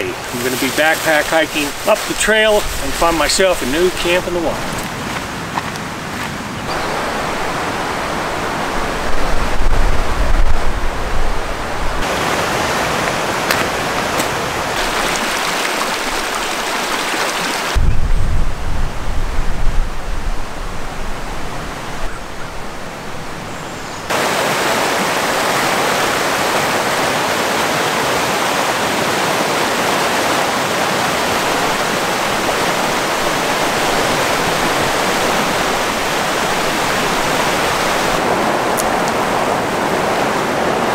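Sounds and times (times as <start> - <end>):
river water rushing: 0.0 - 17.8, 24.1 - 40.9.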